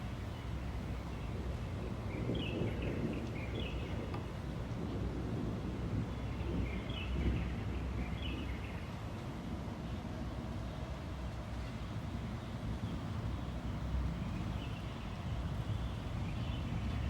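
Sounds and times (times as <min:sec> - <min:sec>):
low rumble of rain: 0:00.0 - 0:17.0.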